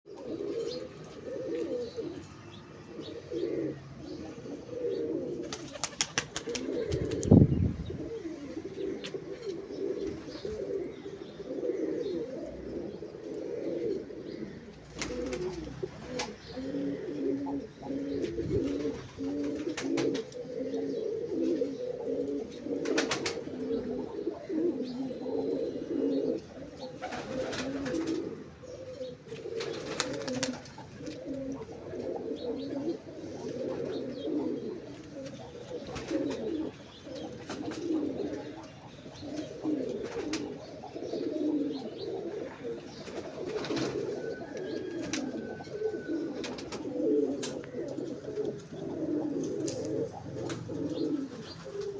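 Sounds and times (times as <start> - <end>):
pigeons cooing: 0.1 - 51.9.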